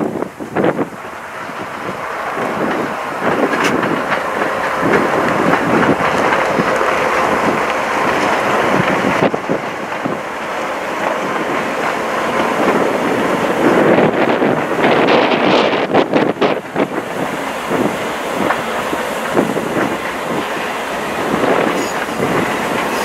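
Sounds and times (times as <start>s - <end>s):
diesel locomotive passing: 0.0s - 23.0s
train wheels clattering on rails: 0.0s - 23.0s.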